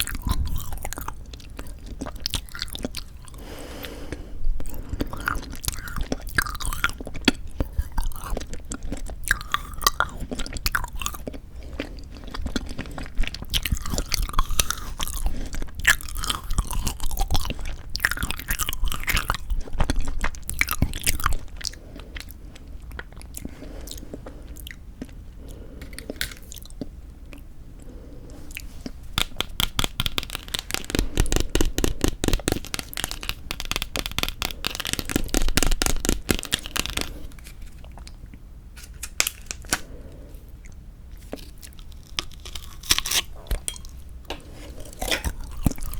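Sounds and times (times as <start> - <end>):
crunchy chewing of frozen jelly: 0.0 - 45.9.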